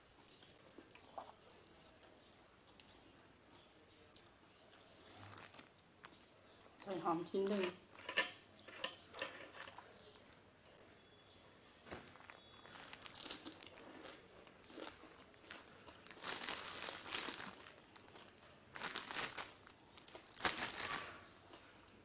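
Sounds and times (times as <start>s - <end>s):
crunchy chewing of vegetables: 0.0s - 11.1s, 11.8s - 22.0s.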